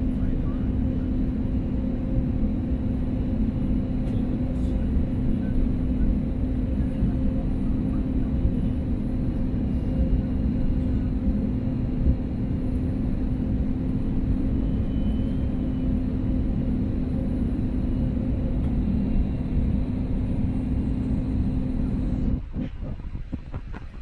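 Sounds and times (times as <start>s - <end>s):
airplane cabin rumble: 0.0s - 24.0s
low hum: 0.0s - 24.0s.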